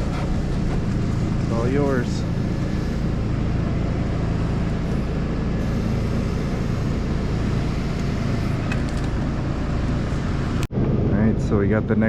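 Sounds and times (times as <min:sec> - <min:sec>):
large engine humming: 0:00.0 - 0:10.7.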